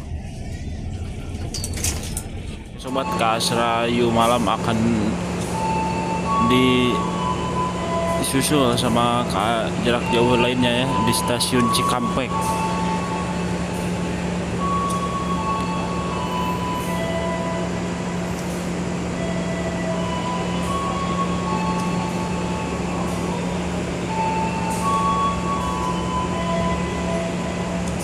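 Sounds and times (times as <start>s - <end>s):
high rail squealing tones: 0.0s - 28.0s
train low hum: 0.0s - 28.0s.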